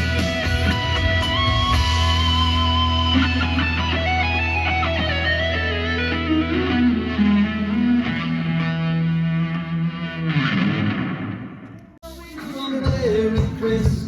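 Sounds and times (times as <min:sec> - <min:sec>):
electric guitar solo: 0:00.0 - 0:11.6.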